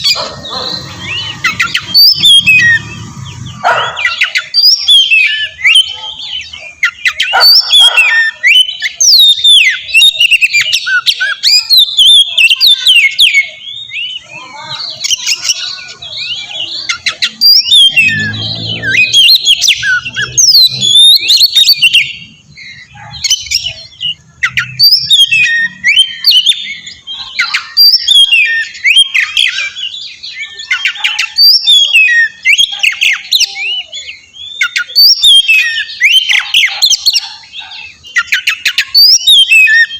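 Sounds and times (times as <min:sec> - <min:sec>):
bird singing varied whistles: 0:00.0 - 0:14.3, 0:14.9 - 0:39.9.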